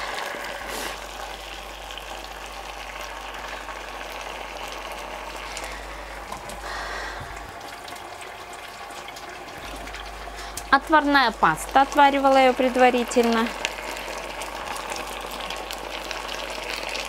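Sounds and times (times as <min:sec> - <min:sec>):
sauce bubbling and sizzling: 0:00.0 - 0:17.0.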